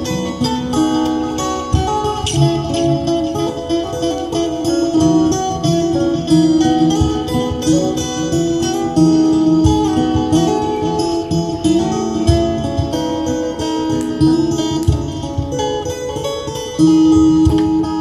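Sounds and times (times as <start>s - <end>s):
acoustic guitar fingerpicked: 0.0s - 18.0s.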